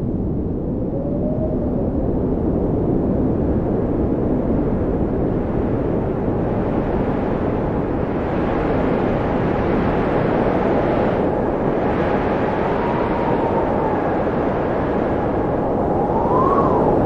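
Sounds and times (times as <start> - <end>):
blizzard wind rushing: 0.0 - 17.0.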